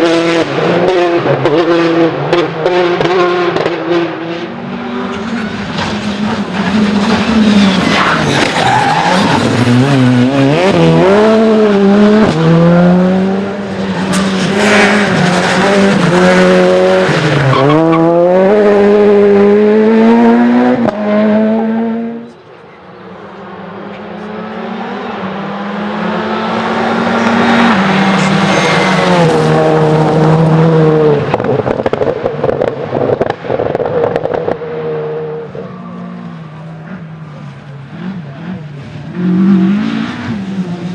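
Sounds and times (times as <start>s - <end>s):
rally car engines revving: 0.0s - 40.9s
rally car passing: 0.0s - 40.9s.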